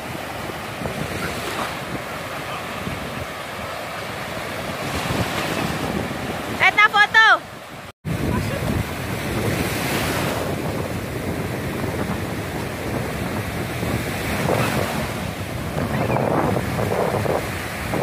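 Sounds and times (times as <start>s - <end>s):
sea surf breaking: 0.0s - 18.0s
wind rumbling on microphone: 0.0s - 18.0s.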